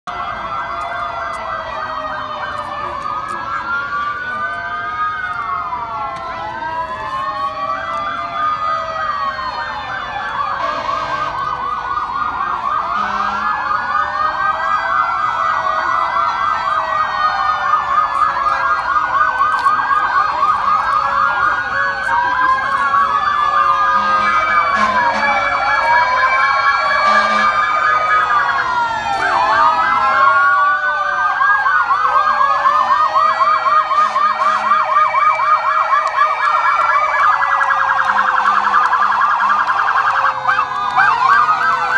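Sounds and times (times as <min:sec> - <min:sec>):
siren yelping: 0:00.0 - 0:41.9
sirens wailing: 0:00.0 - 0:41.9.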